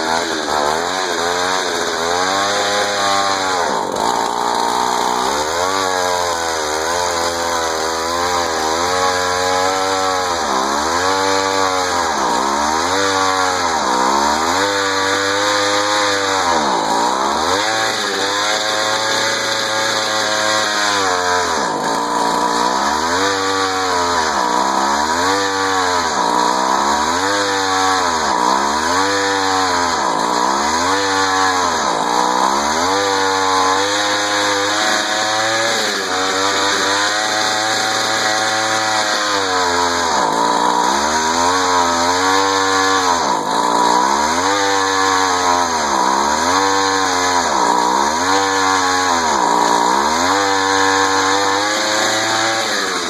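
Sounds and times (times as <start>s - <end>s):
auger boring into wood: 0.0s - 53.0s
two-stroke engine labouring: 0.0s - 53.0s.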